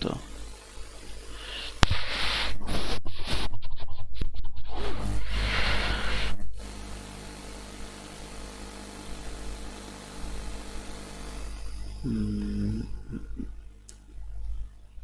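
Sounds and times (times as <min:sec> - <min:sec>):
electrical mains hum and hiss: 0:00.0 - 0:03.4, 0:04.7 - 0:15.0.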